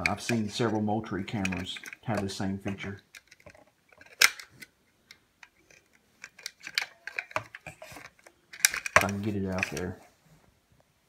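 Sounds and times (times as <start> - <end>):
plastic clicks and rattles: 0.0 - 10.0.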